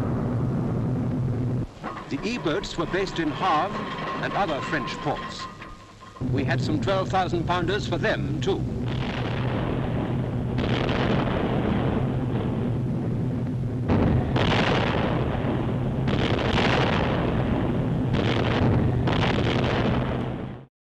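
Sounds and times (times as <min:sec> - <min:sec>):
low rumbling roar: 0:00.0 - 0:20.4
steady low hum: 0:00.0 - 0:20.6
bomb explosions: 0:00.0 - 0:20.7.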